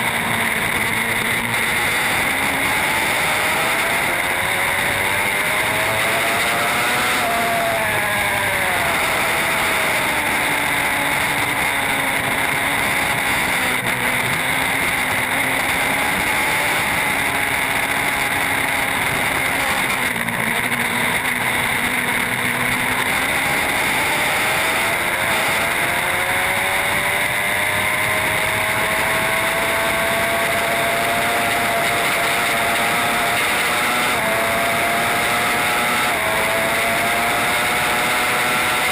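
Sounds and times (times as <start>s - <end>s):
racing motorcycle engine: 0.0s - 38.9s.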